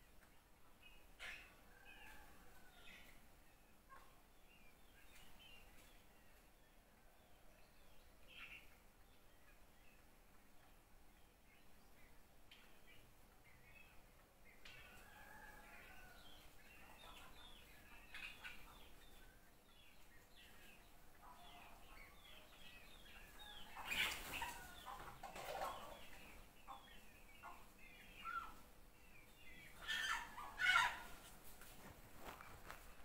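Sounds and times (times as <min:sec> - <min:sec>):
chickens chirping: 0:00.1 - 0:33.0.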